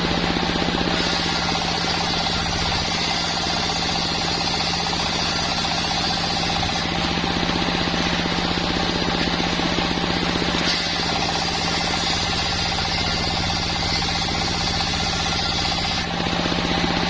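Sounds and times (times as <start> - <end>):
sawmill machine motor running: 0.0 - 17.0.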